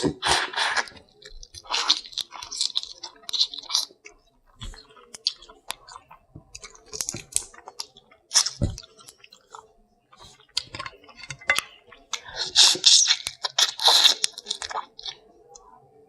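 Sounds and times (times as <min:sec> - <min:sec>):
person chewing: 0:00.0 - 0:15.3.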